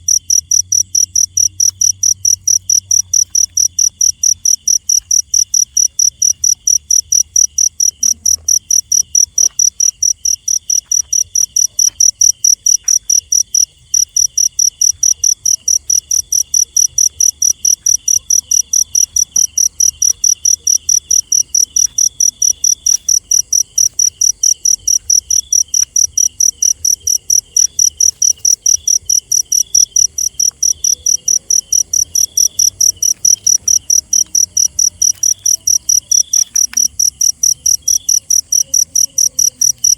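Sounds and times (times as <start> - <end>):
cricket chirping: 0.0 - 39.9
insects trilling: 0.0 - 39.9.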